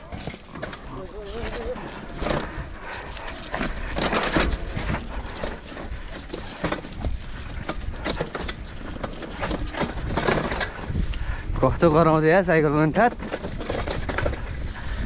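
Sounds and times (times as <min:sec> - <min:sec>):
bike rattling over dirt trail: 0:00.0 - 0:15.0.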